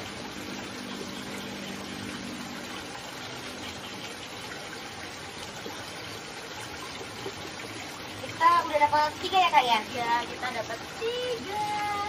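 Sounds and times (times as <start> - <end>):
water rushing along concrete channel: 0.0 - 12.0.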